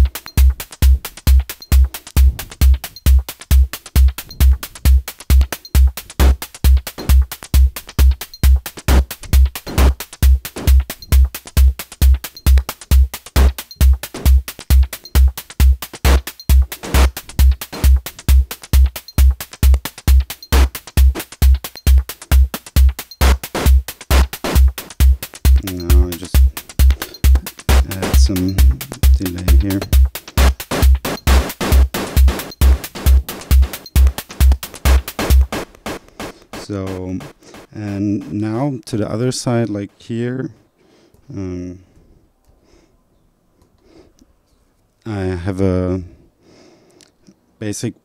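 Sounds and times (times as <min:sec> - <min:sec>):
kick drum: 0:00.0 - 0:38.4
snare with delay: 0:00.0 - 0:39.5
hi-hat ticks: 0:00.0 - 0:40.0.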